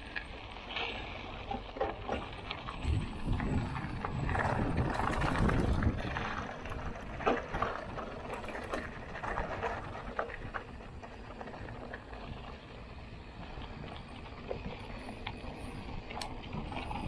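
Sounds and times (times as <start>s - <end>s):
bike clicking and rattling: 0.0s - 17.0s
tyres crunching over stones: 0.0s - 17.0s
wind rumble on microphone: 1.0s - 17.0s.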